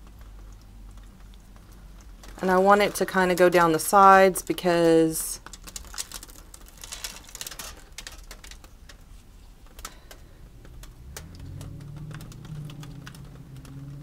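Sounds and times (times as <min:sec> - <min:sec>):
clicks and crackles of foil: 0:00.0 - 0:14.0.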